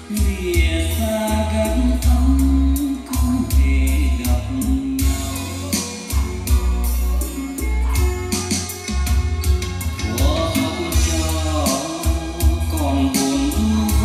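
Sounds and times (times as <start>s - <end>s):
bass: 0.0s - 14.0s
song with singing voice: 0.0s - 14.0s
steady drum beat: 0.0s - 14.0s.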